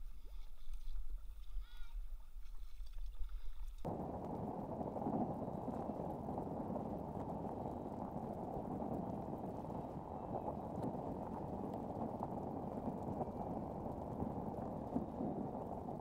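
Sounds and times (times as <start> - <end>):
kayak moving over calm water: 0.0 - 16.0
faint ticks and drips: 0.2 - 16.0.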